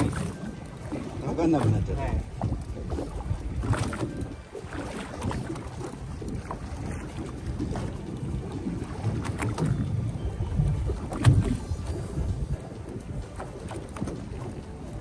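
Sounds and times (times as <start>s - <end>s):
water around a boat: 0.0s - 15.0s
wind buffeting the microphone: 0.0s - 15.0s.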